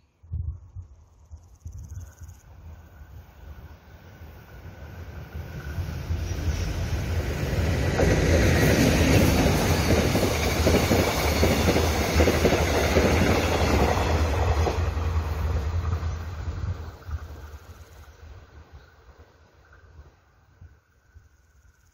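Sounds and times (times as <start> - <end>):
passenger train passing: 2.5 - 21.2.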